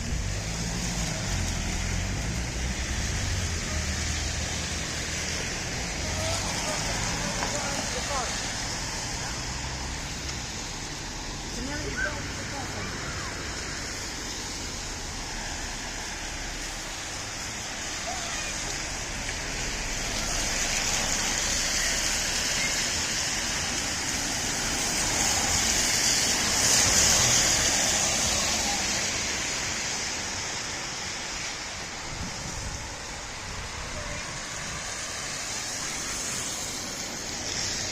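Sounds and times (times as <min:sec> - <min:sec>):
rain: 0:00.0 - 0:37.9
traffic on wet road: 0:00.0 - 0:37.9
vehicle tyres passing: 0:00.0 - 0:37.9.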